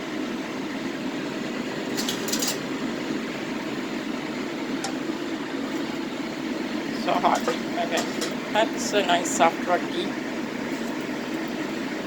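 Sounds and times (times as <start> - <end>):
fan-like rushing noise: 0.0 - 12.0.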